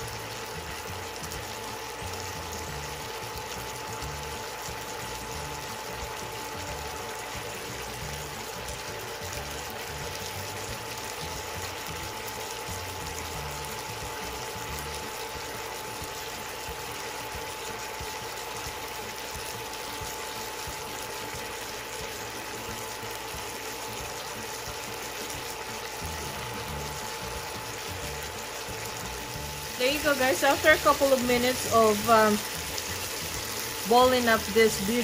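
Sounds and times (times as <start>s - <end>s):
sauce bubbling in a pan: 0.0s - 35.0s.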